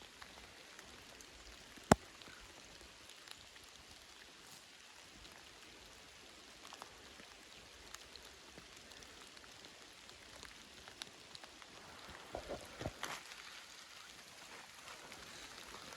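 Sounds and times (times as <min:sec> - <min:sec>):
rain pattering in forest: 0:00.0 - 0:15.9.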